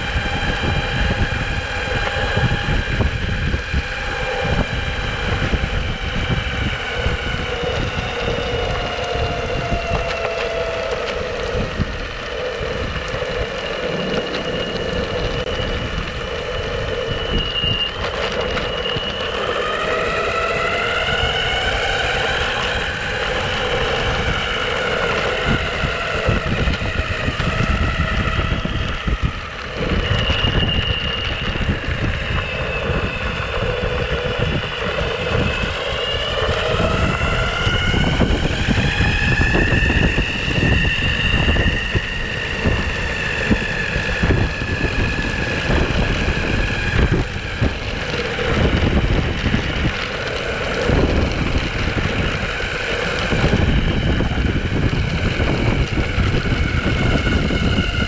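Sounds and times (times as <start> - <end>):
electric motors and belts whining: 0.0 - 58.0
wheels rumbling on path: 0.0 - 58.0
wind on microphone: 0.0 - 58.0.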